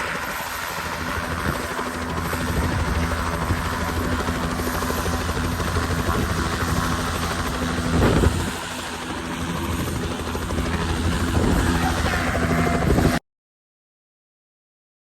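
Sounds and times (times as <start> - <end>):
helicopter flying: 0.0 - 13.2.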